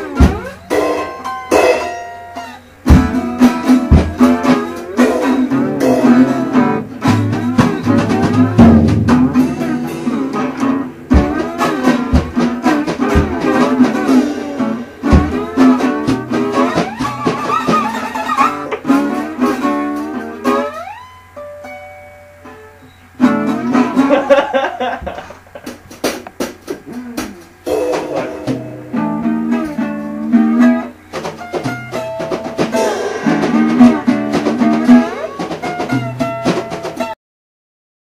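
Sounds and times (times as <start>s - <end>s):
acoustic guitar music: 0.0s - 37.2s.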